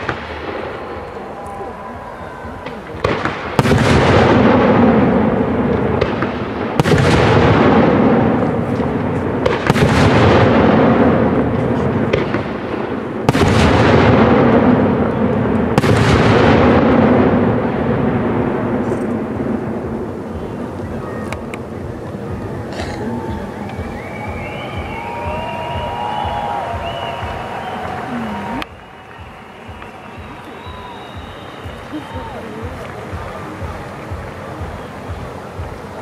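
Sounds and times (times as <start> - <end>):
firework bangs echoing: 0.0 - 36.0.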